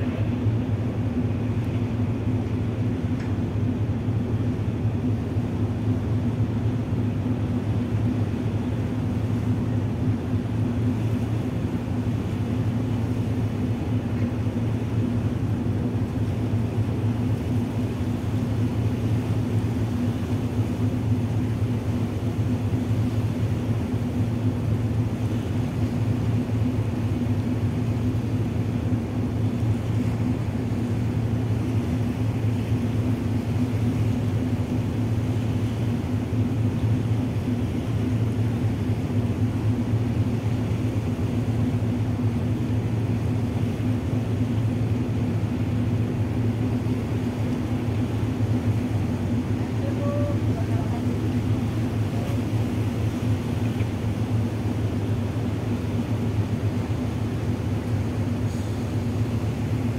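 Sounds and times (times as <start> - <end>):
diesel engines droning: 0.0 - 59.9.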